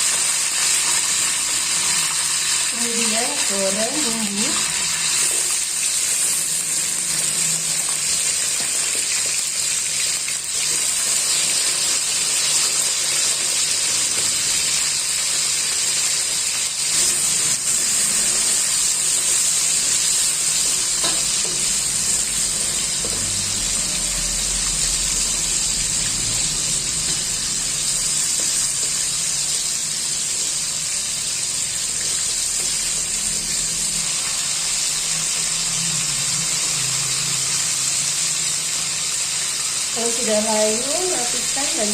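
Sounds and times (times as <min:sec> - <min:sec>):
spice paste sizzling in oil: 0:00.0 - 0:41.9.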